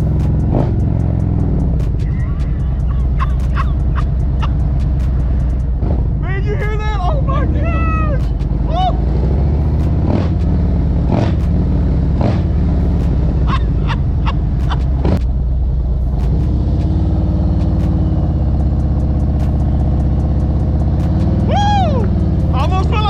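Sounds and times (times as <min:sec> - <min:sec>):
engine pops: 0:00.0 - 0:07.2, 0:07.8 - 0:17.0, 0:17.6 - 0:23.0
motorcycle engine running: 0:00.0 - 0:23.0.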